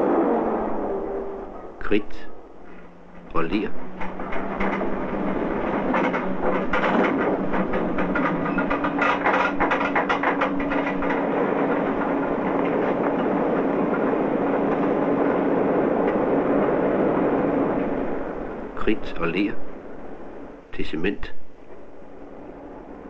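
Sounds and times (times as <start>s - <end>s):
machinery clattering and rattling: 0.0s - 23.0s.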